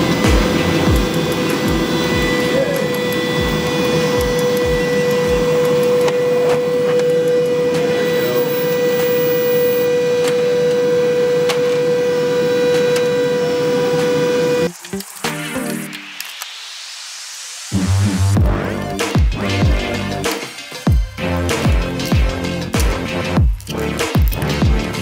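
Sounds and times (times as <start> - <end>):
laser cutter fans whooshing: 0.0 - 23.1.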